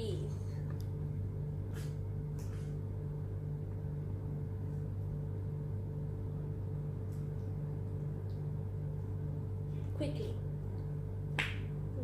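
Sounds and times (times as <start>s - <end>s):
throbbing low hum: 0.0s - 12.0s.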